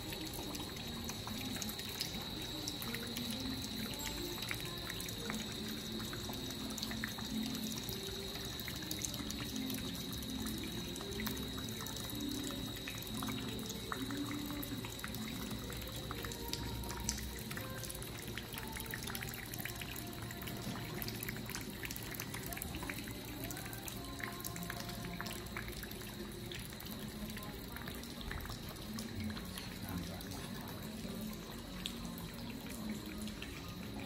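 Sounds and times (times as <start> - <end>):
drops ticking: 0.0 - 34.0.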